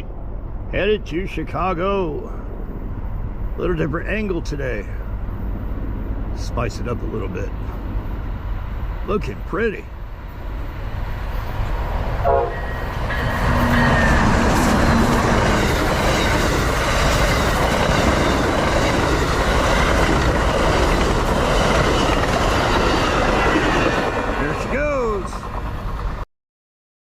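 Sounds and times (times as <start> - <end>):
train wheels rushing on rail: 2.0 - 26.2.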